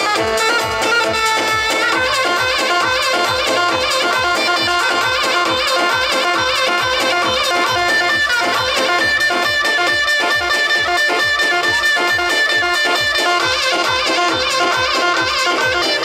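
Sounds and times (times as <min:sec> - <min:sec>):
clarinet melody: 0:00.0 - 0:16.0.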